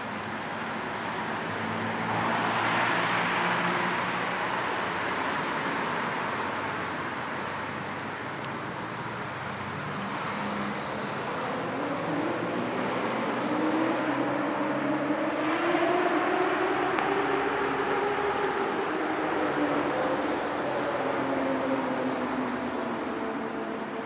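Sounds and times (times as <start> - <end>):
passing cars and tyre noise: 0.0 - 24.0.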